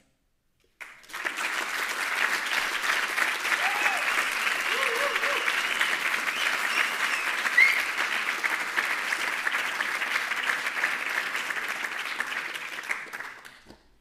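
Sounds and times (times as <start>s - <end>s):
audience applauding: 0.8s - 13.8s.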